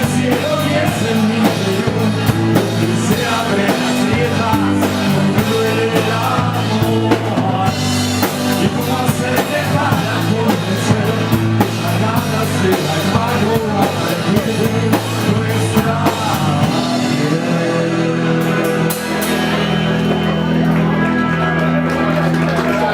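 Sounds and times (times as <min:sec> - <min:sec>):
drum kit beat: 0:00.0 - 0:21.1
live rock band playing: 0:00.0 - 0:22.9.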